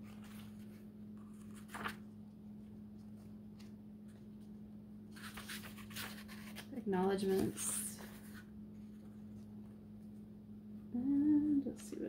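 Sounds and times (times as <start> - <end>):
book pages flipping: 0.0 - 10.2.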